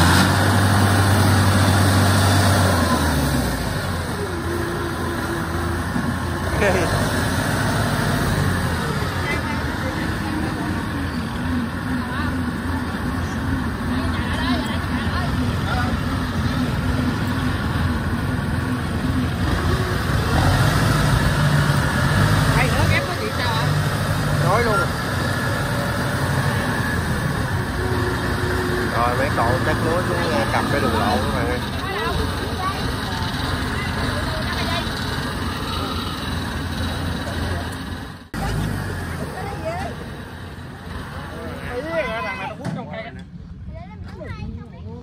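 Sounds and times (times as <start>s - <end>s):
tracked vehicle engine humming: 0.0s - 45.0s.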